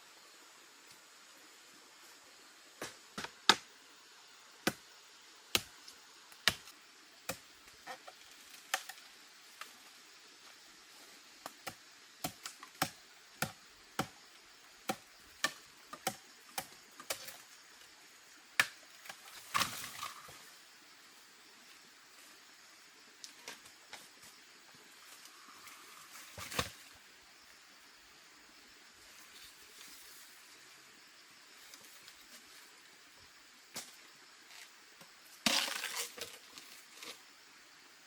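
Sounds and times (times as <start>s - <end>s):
faint hiss: 0.0s - 38.0s.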